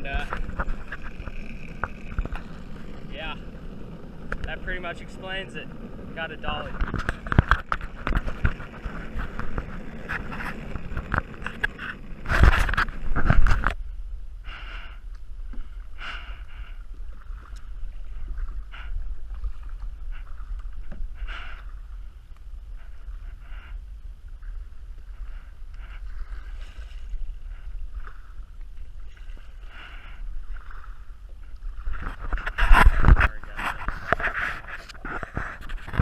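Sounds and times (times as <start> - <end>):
kayak paddle swishing through water: 0.0 - 13.8, 14.6 - 36.0
wind rumble on microphone: 0.0 - 36.0.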